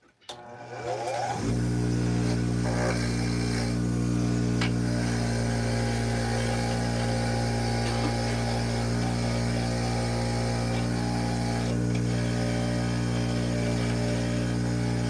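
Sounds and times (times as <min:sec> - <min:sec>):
bench grinder motor hum: 0:00.3 - 0:15.0.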